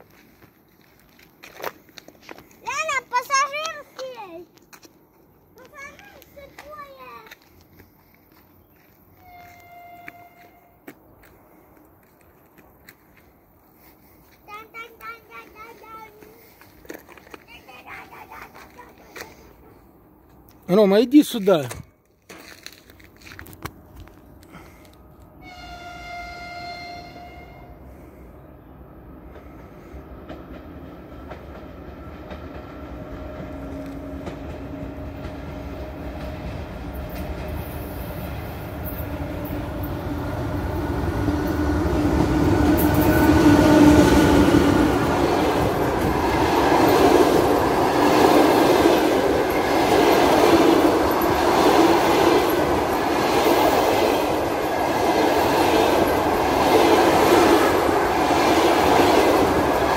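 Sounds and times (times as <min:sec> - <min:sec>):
electric locomotive passing: 0:05.2 - 0:21.7, 0:23.0 - 0:59.9.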